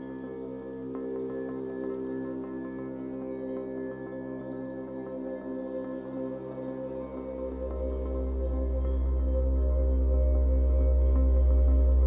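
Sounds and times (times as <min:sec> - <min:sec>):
ambient music with low drone: 0:00.0 - 0:12.0.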